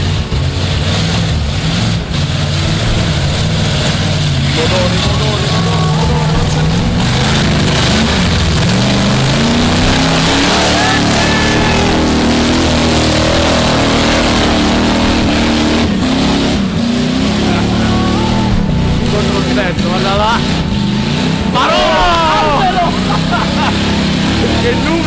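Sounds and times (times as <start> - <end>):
engine revving hard: 0.0 - 25.0
tyres spinning in dirt: 0.0 - 25.0.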